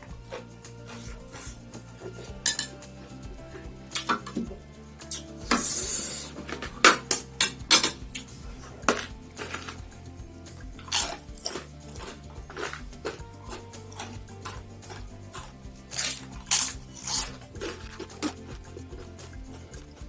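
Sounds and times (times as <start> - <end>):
background music: 0.0 - 20.0
utensils clinking on plate: 0.0 - 20.0.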